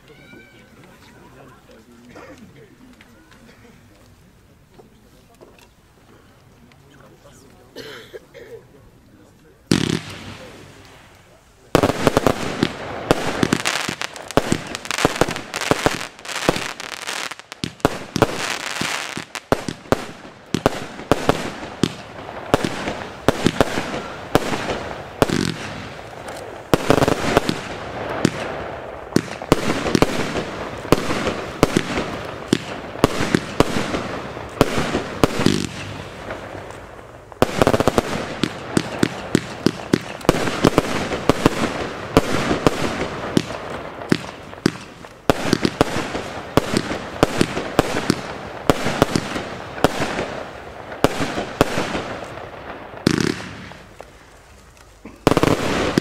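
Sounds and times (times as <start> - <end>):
fireworks shots and bursts: 9.6 - 56.0.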